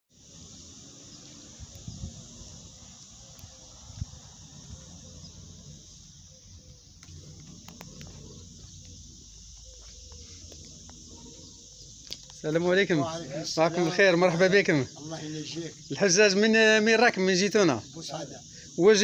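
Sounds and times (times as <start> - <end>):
insect drone: 0.1 - 19.0.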